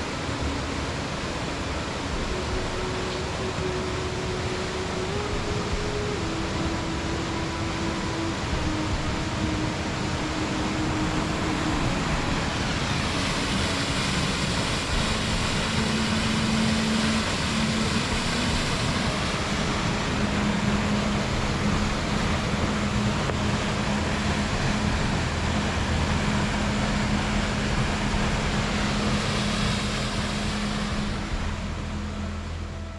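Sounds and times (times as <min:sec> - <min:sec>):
mountain stream and waterfall rushing: 0:00.0 - 0:32.9.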